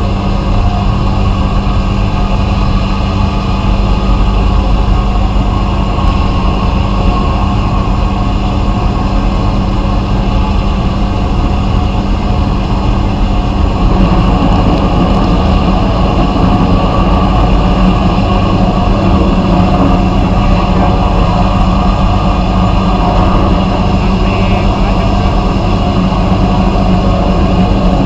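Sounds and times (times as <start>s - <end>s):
blasting machine running: 0.0s - 28.0s.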